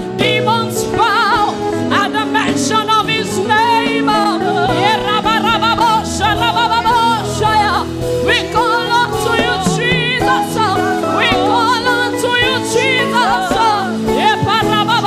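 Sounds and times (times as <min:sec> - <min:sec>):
person singing with vibrato: 0:00.0 - 0:15.0
sustained instrumental backing: 0:00.0 - 0:15.0.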